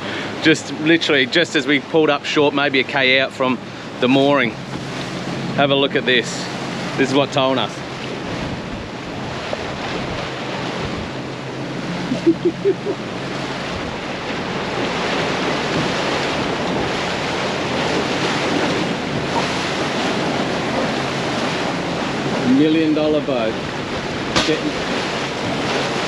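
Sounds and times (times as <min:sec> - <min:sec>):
low engine hum: 0:00.0 - 0:26.0
water rushing past boat: 0:00.0 - 0:26.0
wind buffeting microphone: 0:03.6 - 0:26.0.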